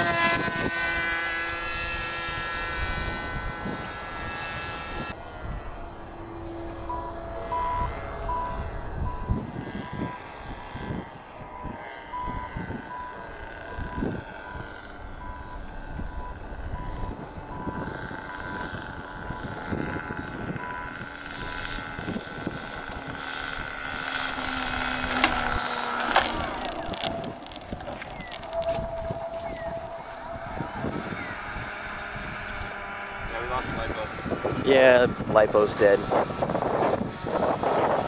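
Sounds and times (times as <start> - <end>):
model airplane engine droning: 0.0 - 38.0
wind on microphone: 0.0 - 38.0.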